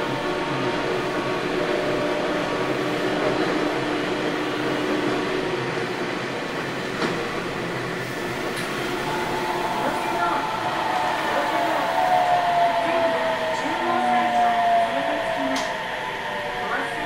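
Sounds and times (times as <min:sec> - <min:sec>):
train motor hum: 0:00.0 - 0:17.0
train wheels rumbling on rail: 0:00.0 - 0:17.0.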